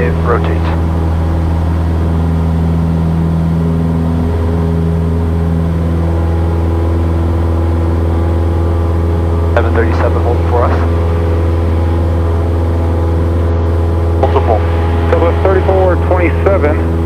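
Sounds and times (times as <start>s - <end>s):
airplane engine drone in cabin: 0.0s - 17.0s.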